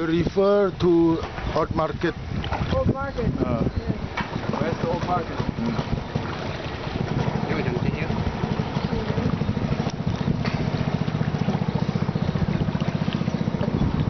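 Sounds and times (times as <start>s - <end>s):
boat engine running: 0.0s - 14.0s
river water washing: 0.0s - 14.0s
wind: 0.0s - 14.0s.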